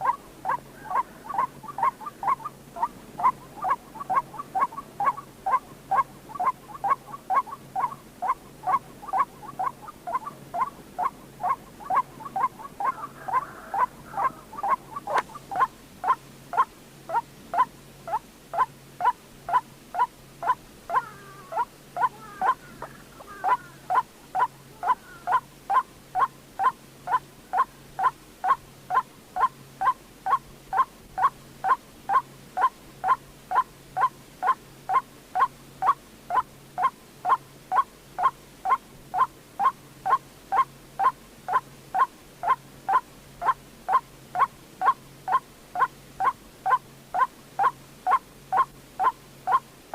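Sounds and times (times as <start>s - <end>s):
waterhen calls: 0.0s - 49.7s.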